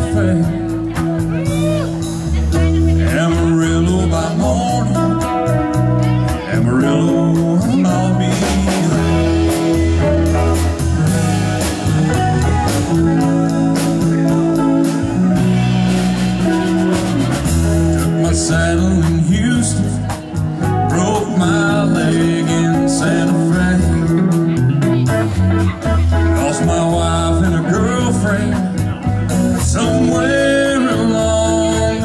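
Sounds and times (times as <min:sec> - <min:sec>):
blues-rock band playing: 0:00.0 - 0:32.0
person singing: 0:00.0 - 0:32.0.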